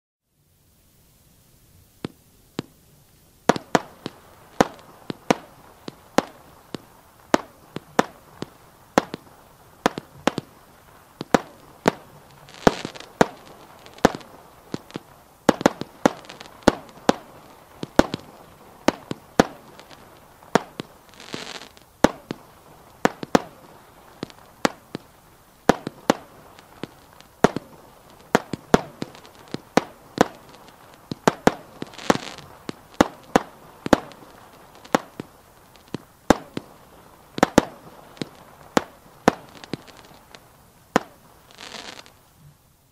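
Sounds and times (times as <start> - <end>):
hissing crackle: 0.4 - 42.9
fireworks bangs: 2.0 - 42.6.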